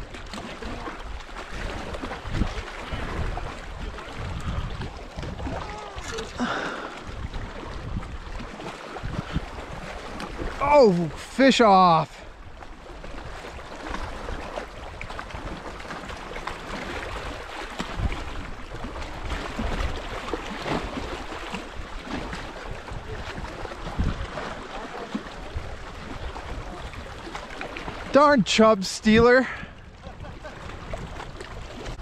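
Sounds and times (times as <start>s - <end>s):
wind buffeting microphone: 0.0s - 10.6s, 12.3s - 28.2s, 29.0s - 32.0s
waves lapping on rocks: 0.0s - 32.0s.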